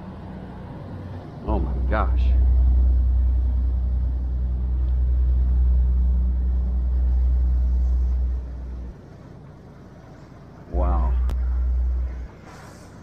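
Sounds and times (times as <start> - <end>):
deep rumble of yacht engines: 0.0 - 13.0.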